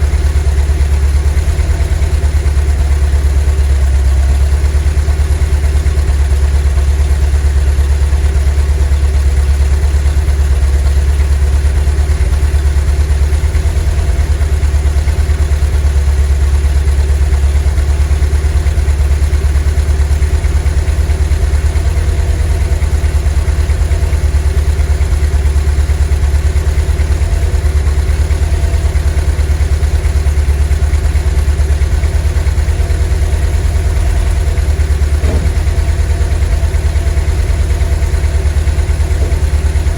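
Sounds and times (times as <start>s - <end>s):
van engine idling: 0.0s - 39.9s.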